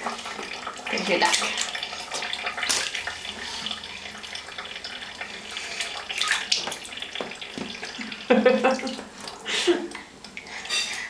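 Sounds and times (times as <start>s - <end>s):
bathwater sloshing and splashing: 0.0s - 11.0s.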